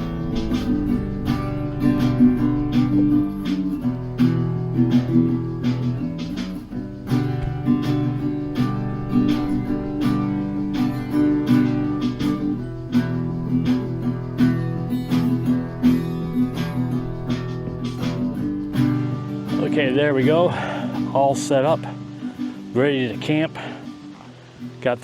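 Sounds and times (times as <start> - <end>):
strummed guitar chords: 0.0 - 25.0.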